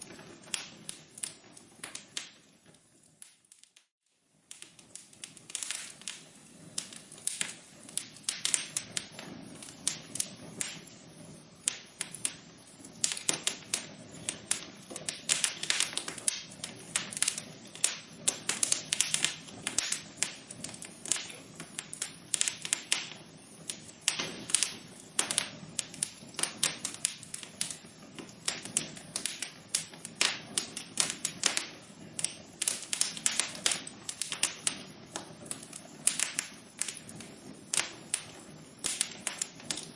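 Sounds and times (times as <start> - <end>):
soft hiss: 0.0 - 39.9
wood fire crackling: 0.0 - 39.9.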